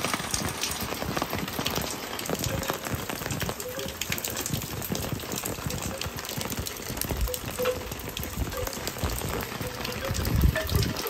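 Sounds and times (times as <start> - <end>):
torrential rain: 0.0 - 11.0.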